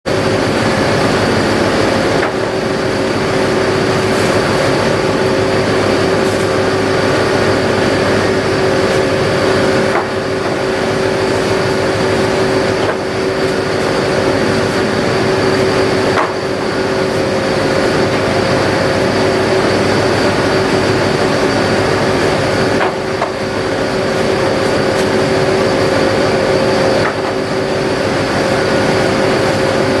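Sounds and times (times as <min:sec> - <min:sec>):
engine and machinery hum: 0:00.1 - 0:30.0.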